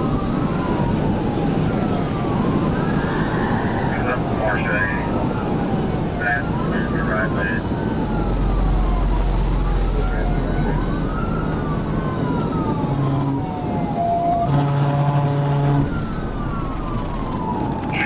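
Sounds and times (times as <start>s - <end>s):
moving vehicle road noise: 0.0s - 18.0s
police siren wailing: 0.0s - 18.0s.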